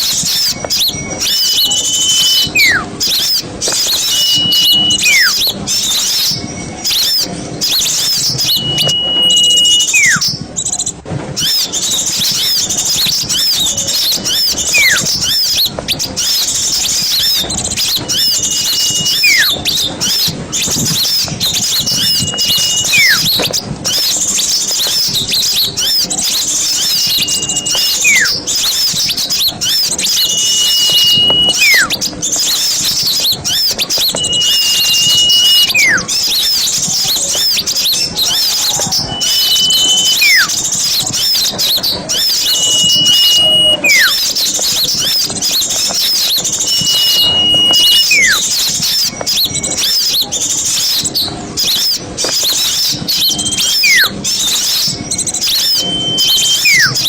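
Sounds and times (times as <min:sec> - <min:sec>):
clear bird whistle: 0:00.0 - 0:57.0
songbirds twittering: 0:00.0 - 0:57.0.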